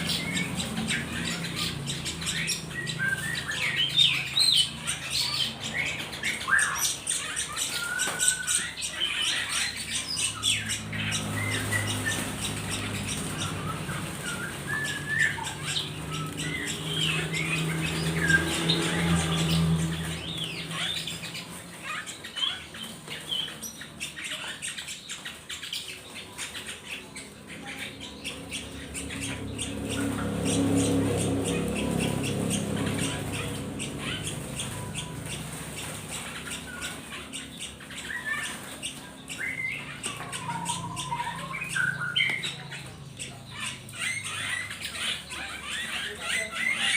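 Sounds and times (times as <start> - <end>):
birds chirping and squawking: 0.0 - 46.9.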